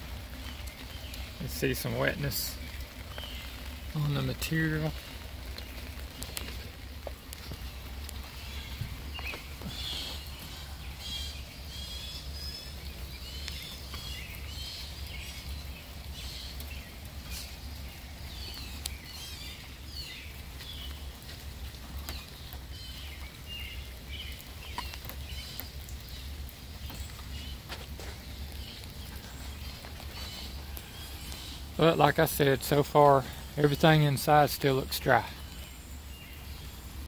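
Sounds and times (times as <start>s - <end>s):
rain pattering: 0.0s - 37.0s
water dripping ticks: 0.0s - 37.0s
birds chirping and singing: 0.1s - 37.0s.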